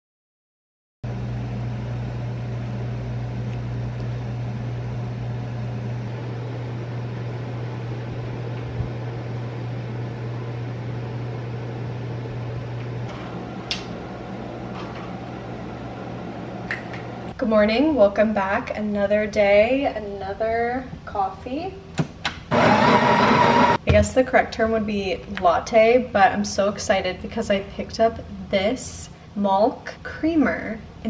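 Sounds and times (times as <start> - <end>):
electric fan humming: 1.1 - 31.0.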